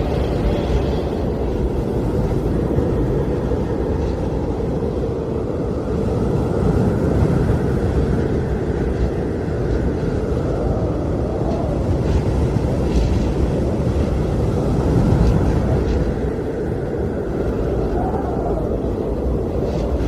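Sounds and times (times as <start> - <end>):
blizzard wind blowing: 0.0 - 20.0.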